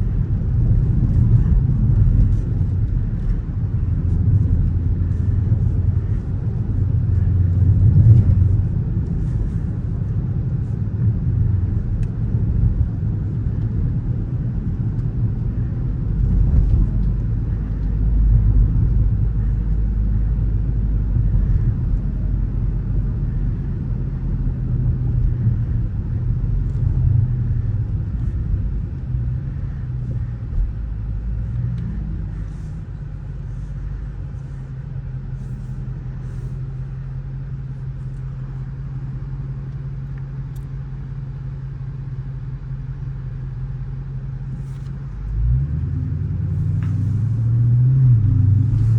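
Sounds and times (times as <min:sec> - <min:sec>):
car engine droning: 0:00.0 - 0:48.9
road noise: 0:00.0 - 0:48.9.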